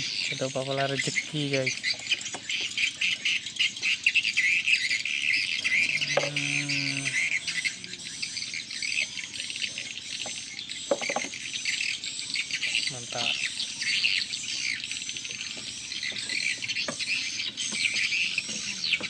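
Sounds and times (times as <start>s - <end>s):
birds chirping: 0.0s - 19.0s
insects trilling: 0.0s - 19.0s.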